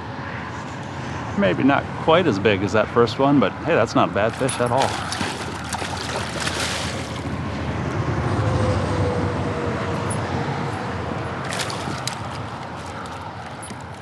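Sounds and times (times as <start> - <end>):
traffic rumble and tyre hiss: 0.0 - 14.0.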